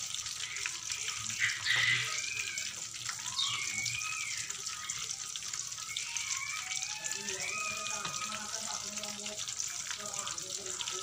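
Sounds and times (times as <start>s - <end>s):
hot oil sizzling in a wok: 0.0s - 11.0s.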